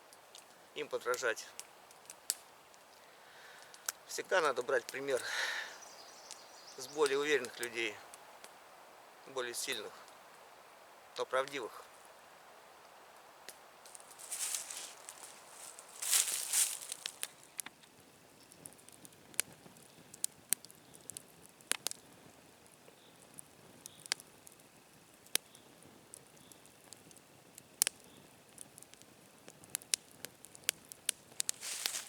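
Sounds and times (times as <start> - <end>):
sharp snaps and ticks: 0.1 - 5.2, 5.8 - 8.6, 12.8 - 32.0.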